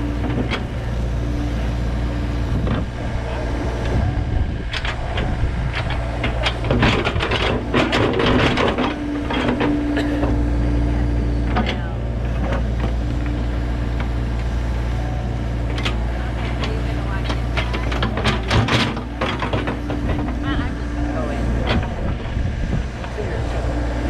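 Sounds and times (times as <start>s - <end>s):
excavator diesel engine: 0.0s - 24.0s
steady whine: 0.0s - 24.0s.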